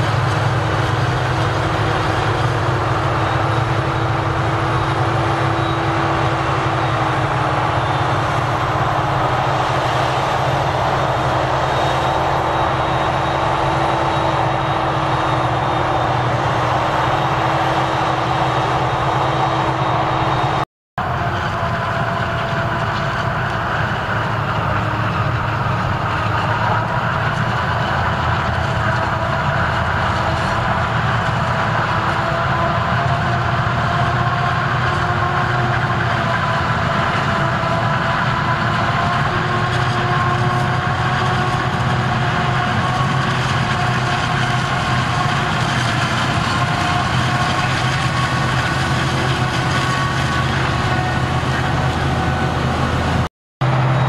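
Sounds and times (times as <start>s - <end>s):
forage harvester whine: 0.0s - 54.0s
tractor running: 0.0s - 54.0s.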